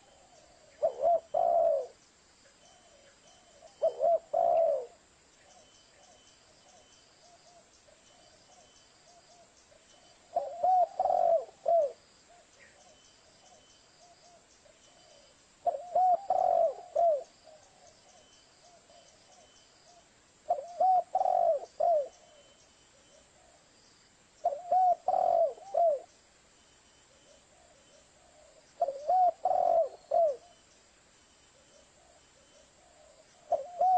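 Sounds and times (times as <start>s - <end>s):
dove cooing: 0.0s - 2.0s, 2.7s - 7.7s, 10.2s - 23.7s, 24.4s - 26.1s, 27.1s - 30.6s, 31.6s - 33.9s.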